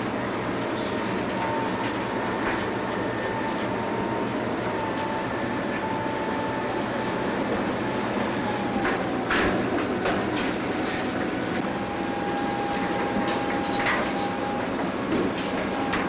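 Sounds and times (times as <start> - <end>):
faint machine whine: 0.0 - 16.0
machine rumble and hiss: 0.0 - 16.0.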